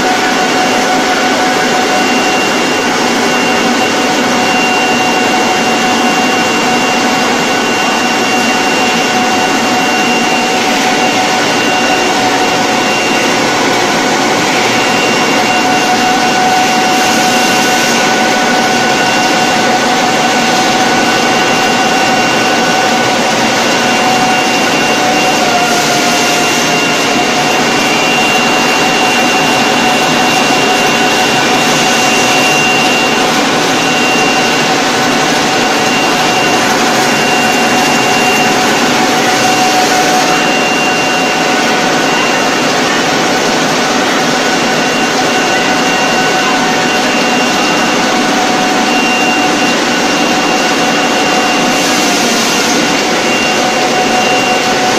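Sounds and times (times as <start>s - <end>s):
high machine whine: 0.0s - 54.9s
production line machine noise: 0.0s - 54.9s.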